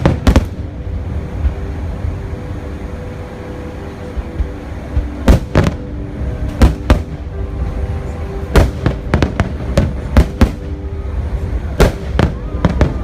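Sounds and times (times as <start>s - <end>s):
music with long held notes: 0.0s - 13.0s.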